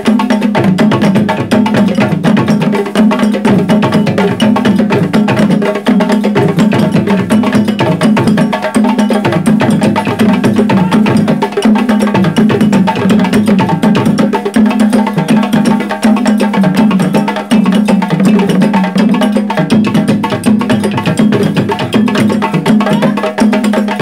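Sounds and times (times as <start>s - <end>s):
street percussion group drumming: 0.0s - 24.0s.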